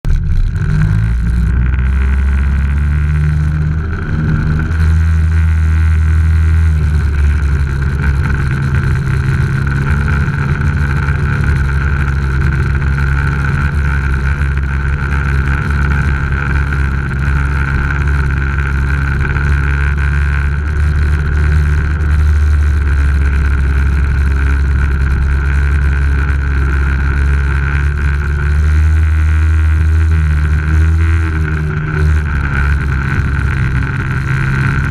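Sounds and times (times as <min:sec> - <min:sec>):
jet ski engine running: 0:00.0 - 0:34.9.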